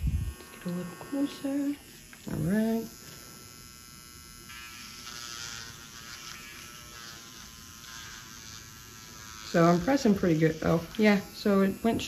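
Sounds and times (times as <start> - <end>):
nail drill whining: 0.0 - 12.0.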